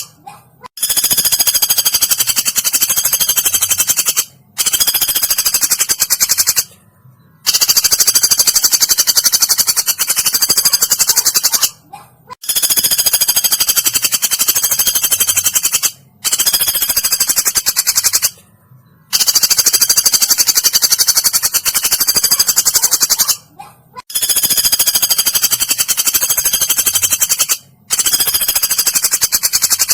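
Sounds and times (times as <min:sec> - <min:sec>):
woodpecker rattle calls: 0:00.8 - 0:06.8, 0:07.4 - 0:11.8, 0:12.4 - 0:18.4, 0:19.1 - 0:29.9.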